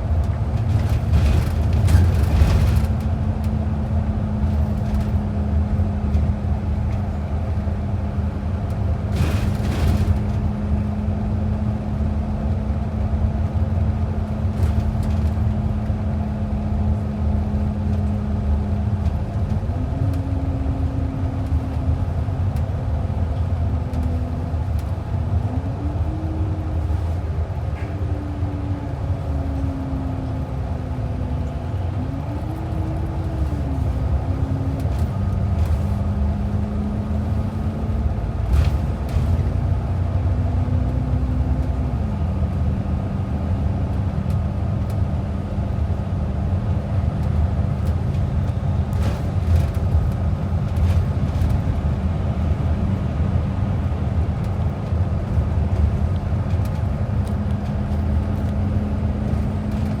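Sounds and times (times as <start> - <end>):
bus engine and road rumble: 0.0 - 60.0.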